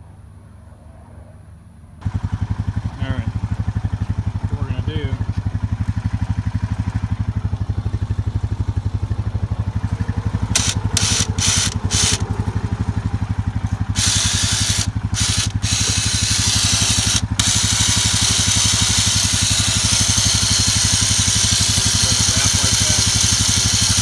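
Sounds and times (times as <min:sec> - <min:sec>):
engine idling: 0:02.0 - 0:24.0.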